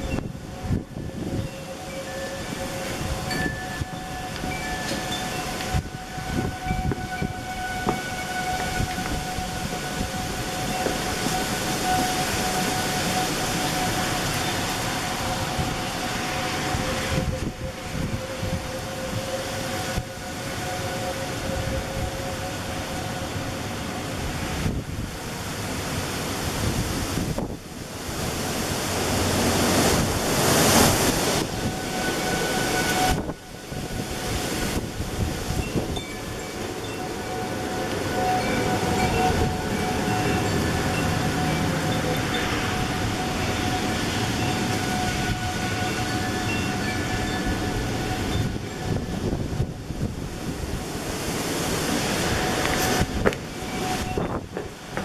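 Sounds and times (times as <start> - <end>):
rushing noise: 0.0 - 55.0
tornado warning sirens: 0.0 - 55.0
wind buffeting microphone: 0.0 - 55.0.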